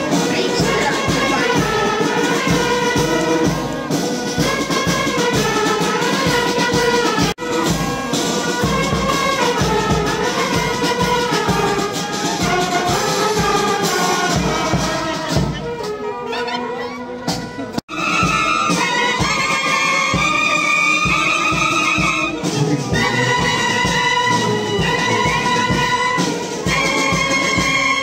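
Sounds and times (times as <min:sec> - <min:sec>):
brass band playing a march: 0:00.0 - 0:28.0.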